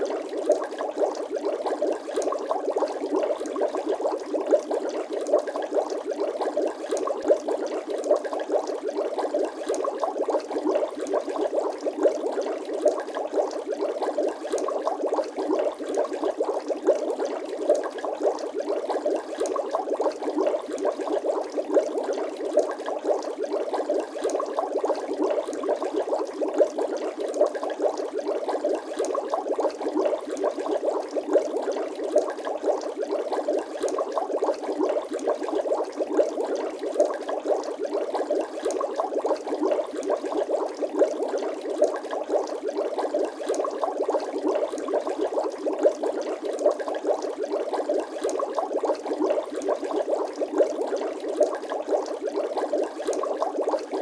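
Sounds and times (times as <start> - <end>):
bubbles popping in water: 0.0 - 54.0.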